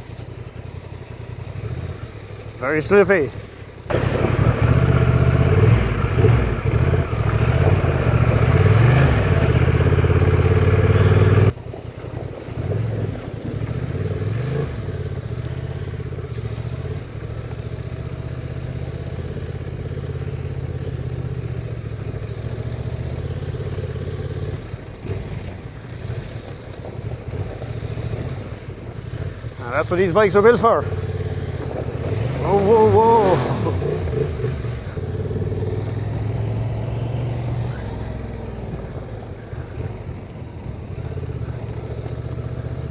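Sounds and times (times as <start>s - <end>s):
motorcycle engine revving: 0.0s - 11.6s, 12.5s - 42.9s.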